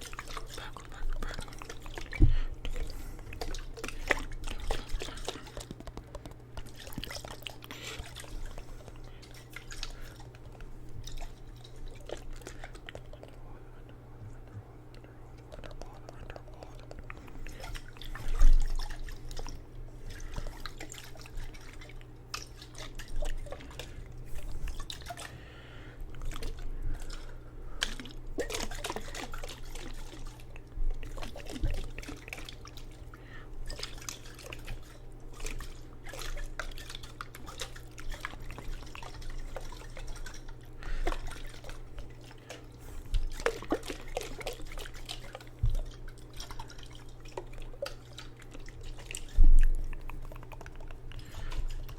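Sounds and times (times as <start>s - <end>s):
water sloshing in a jar: 0.0s - 13.4s, 15.4s - 51.9s
steady low hum: 0.0s - 51.9s.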